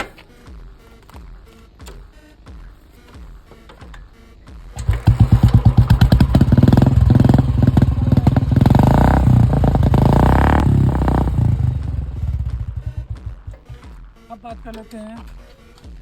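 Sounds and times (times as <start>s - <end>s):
motorcycle engine thumping and revving: 1.2s - 14.1s.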